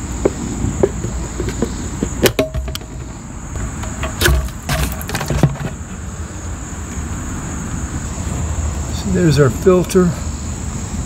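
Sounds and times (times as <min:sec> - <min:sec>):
high insect buzz: 0:00.0 - 0:11.0.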